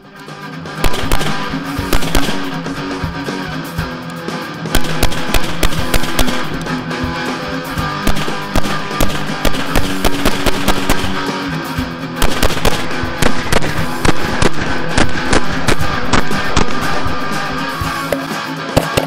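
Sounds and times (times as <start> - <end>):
rock music with electric guitar: 0.0 - 19.0
rapid rifle fire: 0.8 - 3.2, 4.7 - 19.0.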